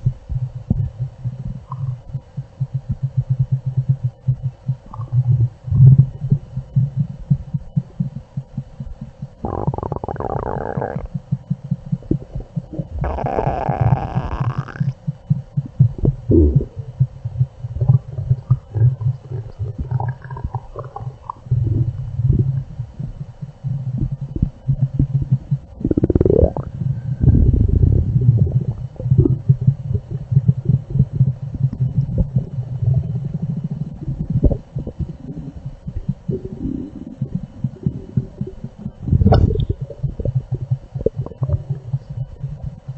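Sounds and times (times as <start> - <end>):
stomach gurgling: 0.0 - 42.9
stomach rumbling: 0.0 - 42.9.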